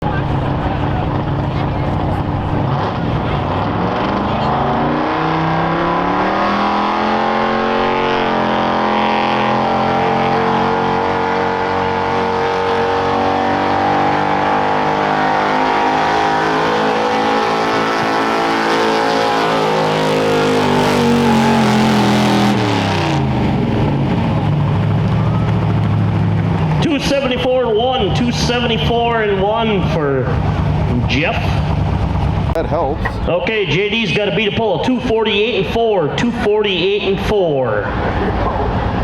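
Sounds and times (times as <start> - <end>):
truck engine running hard: 0.0 - 39.0.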